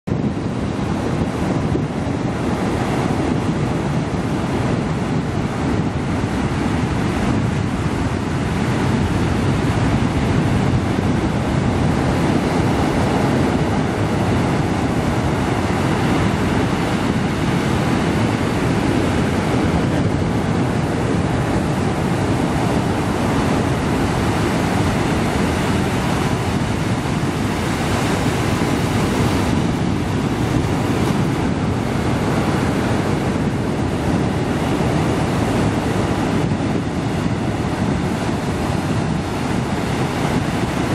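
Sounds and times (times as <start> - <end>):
surf breaking on rocky shore: 0.1 - 40.9.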